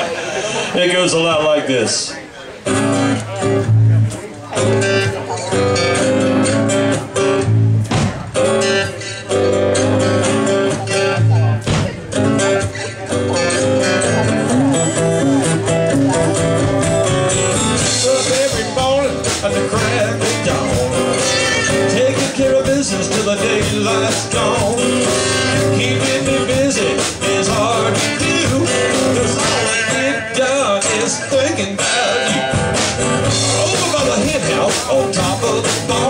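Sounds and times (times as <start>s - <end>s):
country-rock band playing: 0.0s - 36.0s.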